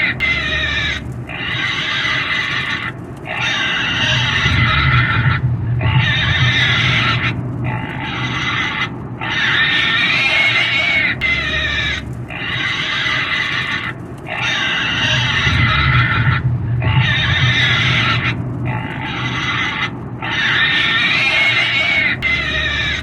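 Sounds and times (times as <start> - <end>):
pig squealing: 0.0 - 23.0.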